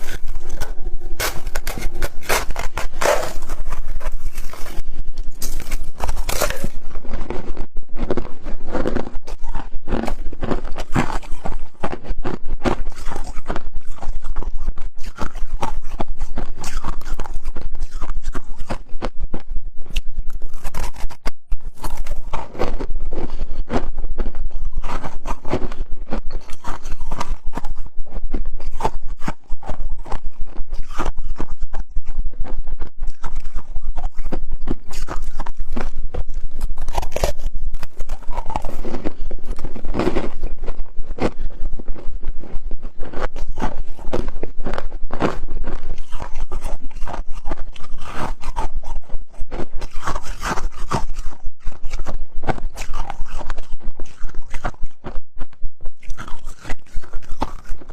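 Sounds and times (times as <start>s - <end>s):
ice being chewed: 0.0s - 57.9s.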